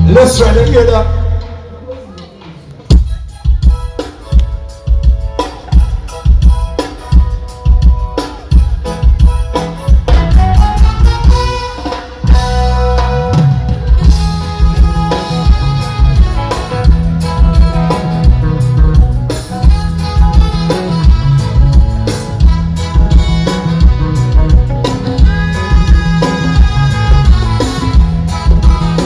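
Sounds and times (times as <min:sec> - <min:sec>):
heavy bass: 0:00.0 - 0:01.9, 0:05.3 - 0:29.0
drum kit beat: 0:00.0 - 0:29.0
live band playing: 0:00.0 - 0:29.0.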